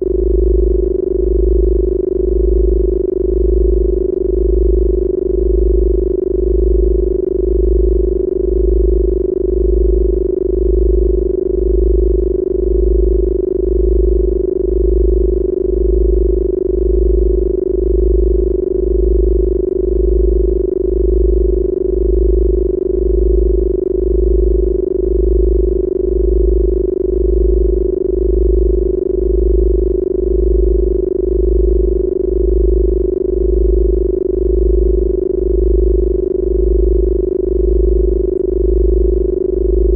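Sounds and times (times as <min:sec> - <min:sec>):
deep pulsing low tone: 0:00.0 - 0:39.9
steady electronic hum: 0:00.0 - 0:39.9.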